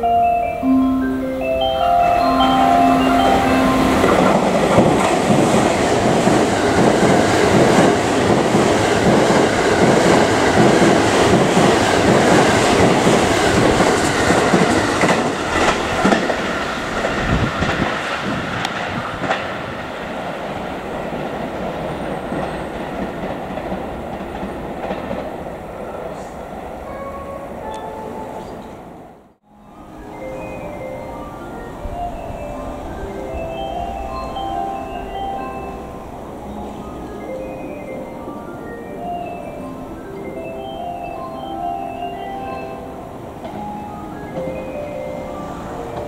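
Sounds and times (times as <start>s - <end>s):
train rushing past: 0.0s - 46.0s.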